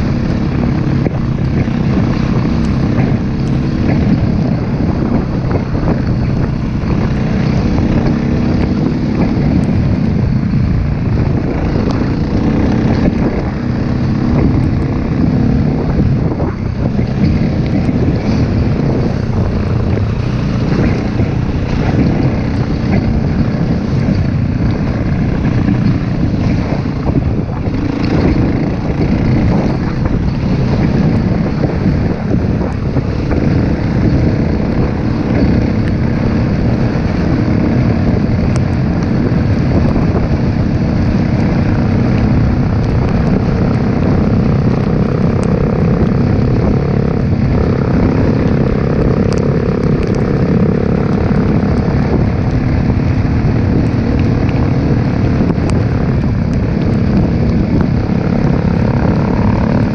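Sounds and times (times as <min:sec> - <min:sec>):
motorbike engine running: 0:00.0 - 0:59.9
wind rush on microphone: 0:00.0 - 0:59.9.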